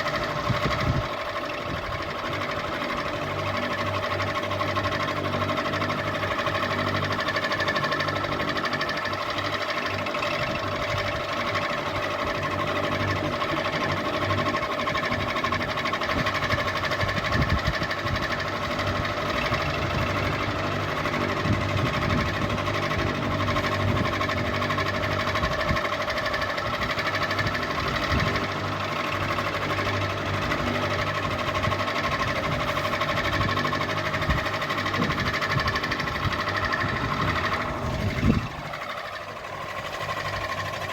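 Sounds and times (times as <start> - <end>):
ceiling fan running: 0.0 - 40.9.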